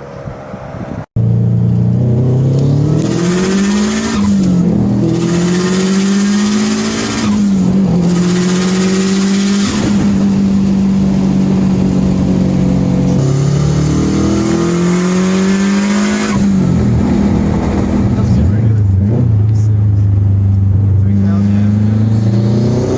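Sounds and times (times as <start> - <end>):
car engine at high revs: 0.0 - 22.9.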